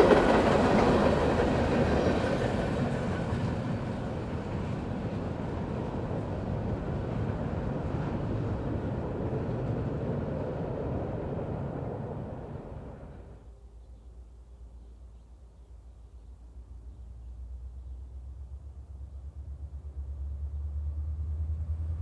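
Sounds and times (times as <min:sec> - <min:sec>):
freight train rumbling on rails: 0:00.0 - 0:13.5, 0:17.6 - 0:22.0.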